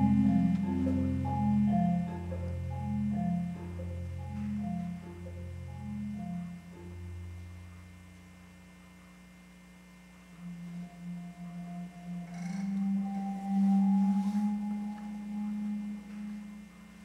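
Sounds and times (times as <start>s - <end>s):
marimba notes: 0.0s - 7.4s, 10.4s - 16.8s
marimba roll: 0.0s - 7.4s, 10.4s - 16.7s.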